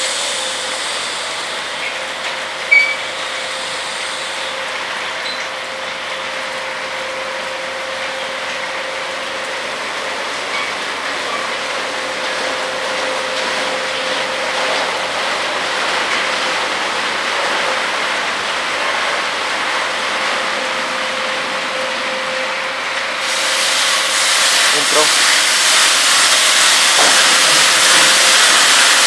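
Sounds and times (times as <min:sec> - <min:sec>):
machine hum: 0:00.0 - 0:29.0
water spraying from nozzles: 0:00.0 - 0:29.0.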